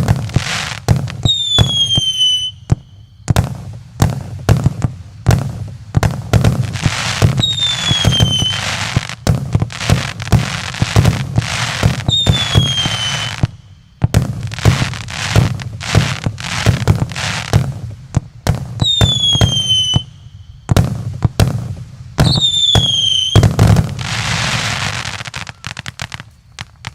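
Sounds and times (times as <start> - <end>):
falling fireworks whistles: 0.0 - 26.9
fireworks crackling: 0.0 - 26.9
fireworks launch thumps and bursts: 0.0 - 26.9.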